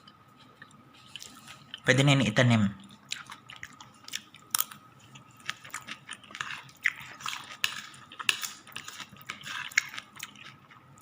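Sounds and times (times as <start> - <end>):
person chewing crunchy food: 0.0 - 1.8, 2.9 - 11.0.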